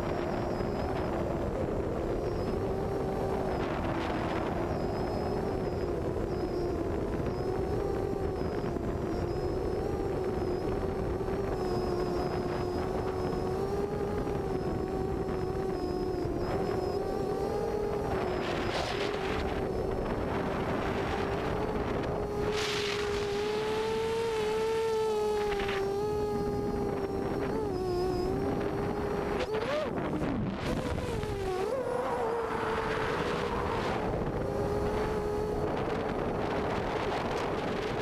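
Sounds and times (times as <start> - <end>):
quadcopter motors buzzing whine: 0.0 - 38.0
wind gusts on microphone: 0.0 - 38.0.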